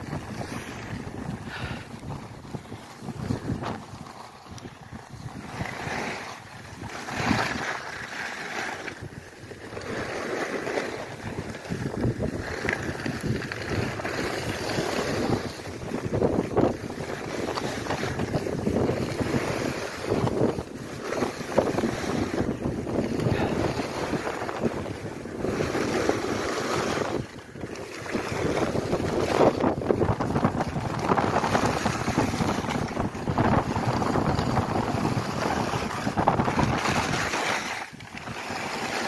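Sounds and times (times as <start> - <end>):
skis scraping over snow: 0.0 - 39.0
wind buffeting microphone: 0.0 - 39.0.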